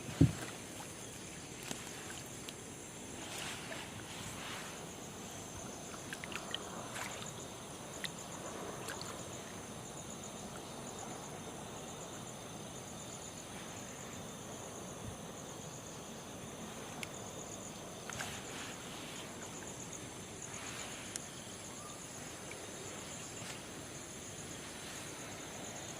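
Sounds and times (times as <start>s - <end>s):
insects trilling: 0.0s - 25.9s.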